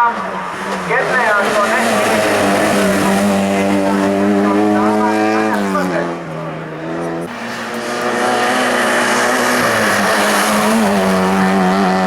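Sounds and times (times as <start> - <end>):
race car engine running hard: 0.0 - 12.0.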